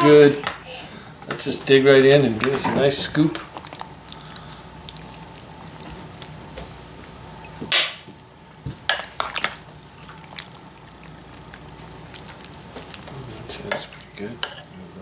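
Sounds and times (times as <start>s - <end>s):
spoon scraping wet food: 1.8s - 15.0s.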